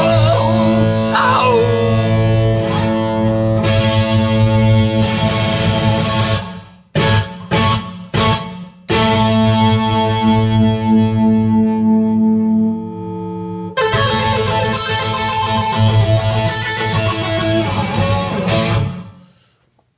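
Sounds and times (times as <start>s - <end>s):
distorted electric guitar chords: 0.0s - 19.2s.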